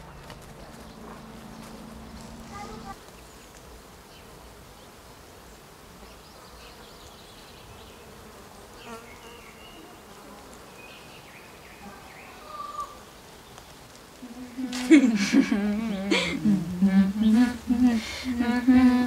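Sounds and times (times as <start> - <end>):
insect buzzing: 0.0 - 19.0.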